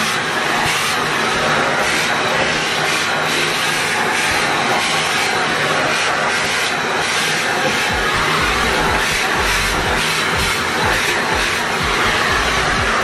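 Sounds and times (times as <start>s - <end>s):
vacuum cleaner rushing: 0.0s - 13.0s.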